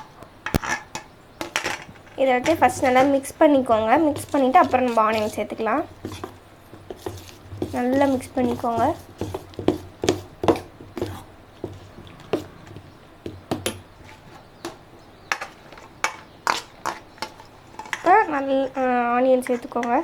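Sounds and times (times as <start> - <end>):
spoon stirring batter in a bowl: 0.5 - 20.0.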